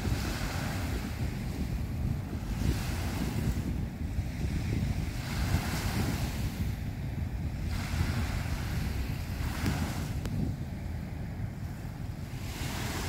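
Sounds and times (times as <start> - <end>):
small waves washing onto sand: 0.0 - 13.0
wind rumbling on microphone: 0.0 - 13.0.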